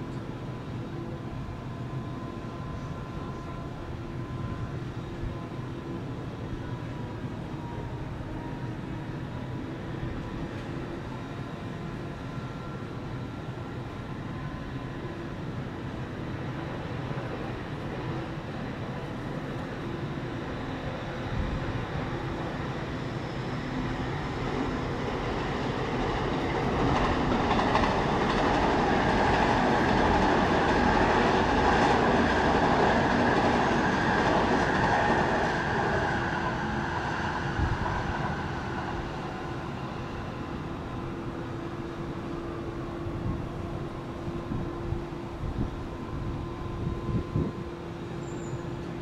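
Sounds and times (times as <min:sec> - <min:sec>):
train passing: 0:00.0 - 0:49.0.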